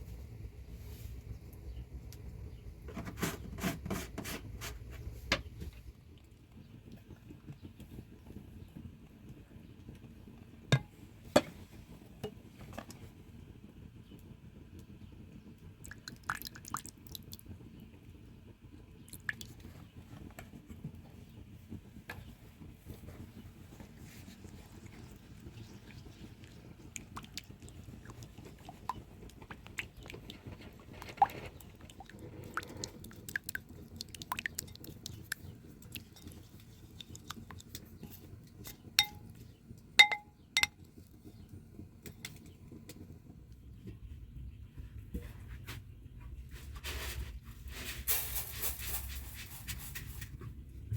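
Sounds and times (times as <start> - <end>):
low background rumble: 0.0 - 15.8, 17.5 - 50.9.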